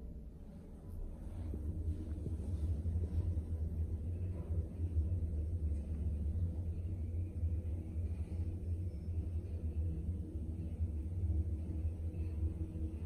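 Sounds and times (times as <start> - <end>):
elevator low rumble: 0.0 - 13.0.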